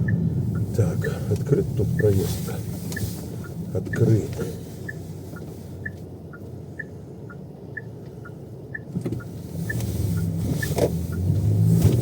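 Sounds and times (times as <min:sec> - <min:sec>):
car engine hum: 0:00.0 - 0:12.0
turn signal ticking: 0:00.0 - 0:12.0.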